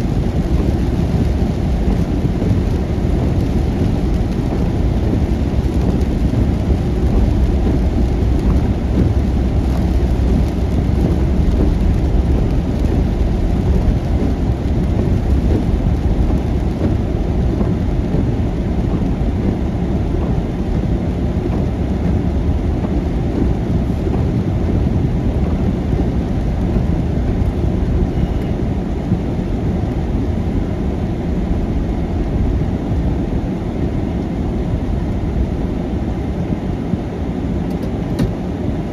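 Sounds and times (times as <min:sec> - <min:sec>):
heavy rain on a moving car: 0:00.0 - 0:38.9.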